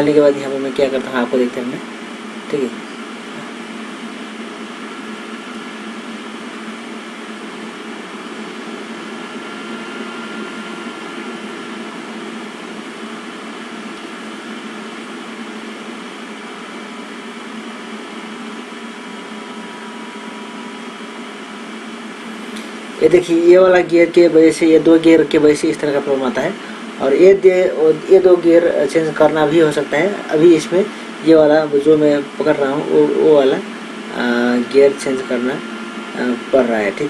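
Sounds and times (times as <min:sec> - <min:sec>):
fan hum with faint whine: 0:00.0 - 0:37.0.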